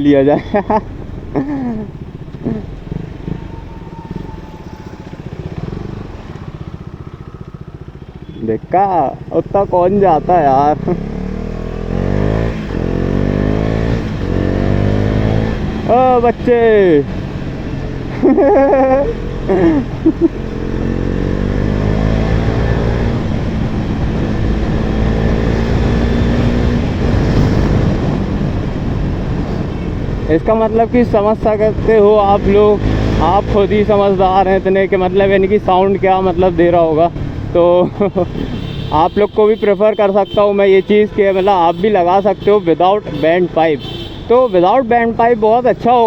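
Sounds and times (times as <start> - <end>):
motorcycle engine running: 1.1 - 39.1.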